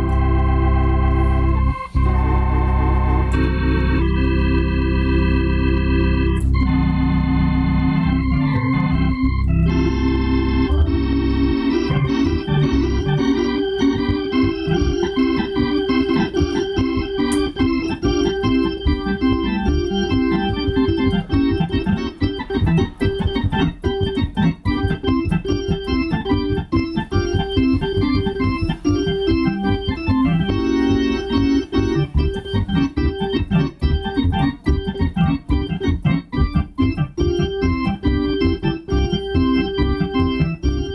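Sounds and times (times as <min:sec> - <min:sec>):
organ playing: 0:00.0 - 0:40.9.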